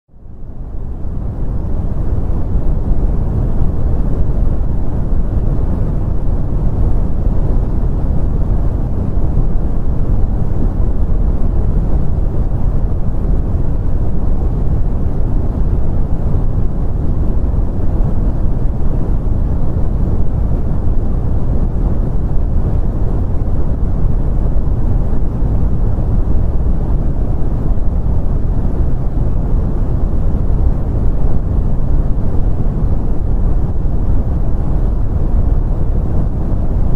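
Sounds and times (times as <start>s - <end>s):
deep rumbling brown noise: 0.1s - 36.9s.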